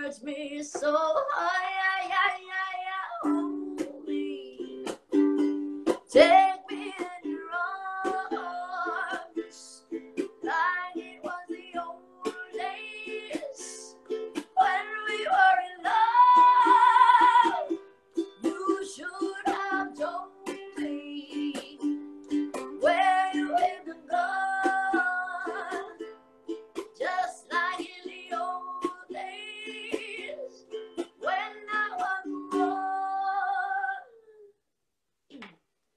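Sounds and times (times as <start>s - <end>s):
person singing: 0.0s - 17.8s, 18.4s - 22.0s, 22.6s - 26.1s, 26.8s - 34.6s
ukulele strumming: 0.0s - 34.0s.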